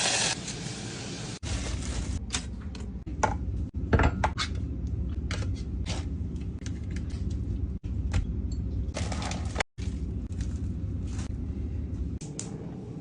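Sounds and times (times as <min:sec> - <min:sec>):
steady low hum: 0:01.8 - 0:13.0.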